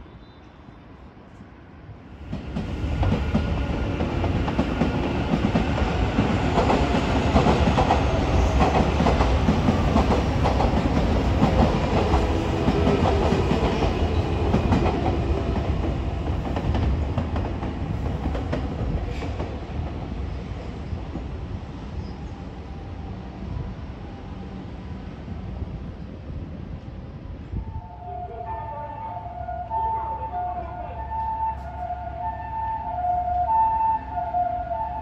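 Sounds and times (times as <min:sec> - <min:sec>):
electric trains running past: 0:00.0 - 0:35.0
rail and wheel noise: 0:00.0 - 0:35.0.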